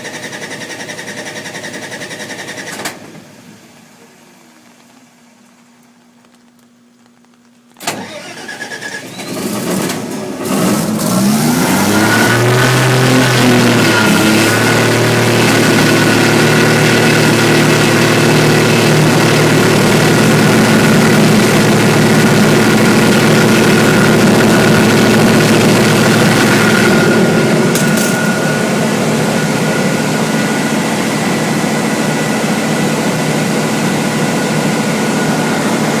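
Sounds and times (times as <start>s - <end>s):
generator engine starting and running: 0.0s - 6.0s, 7.7s - 36.0s.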